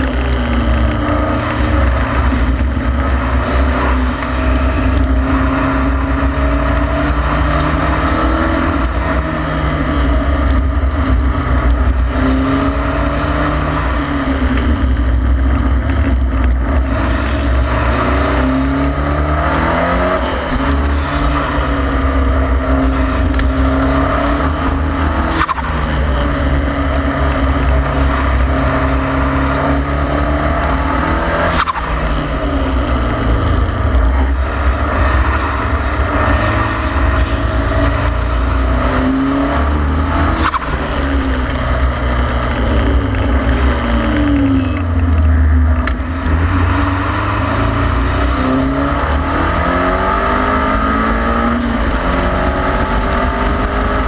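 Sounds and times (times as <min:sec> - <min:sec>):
car engine revving with gear changes: 0:00.0 - 0:54.0
wind and road noise: 0:00.0 - 0:54.0.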